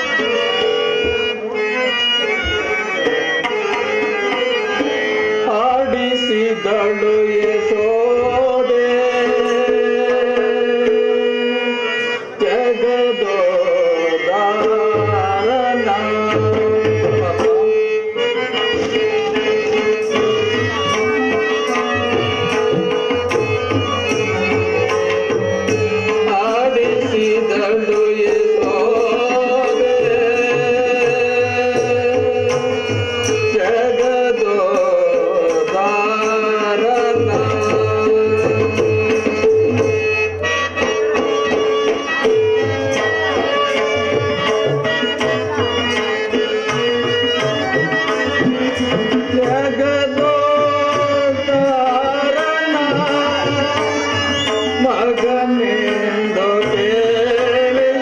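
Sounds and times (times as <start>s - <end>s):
held melodic notes: 0.0s - 58.0s
tabla rhythm: 0.0s - 58.0s.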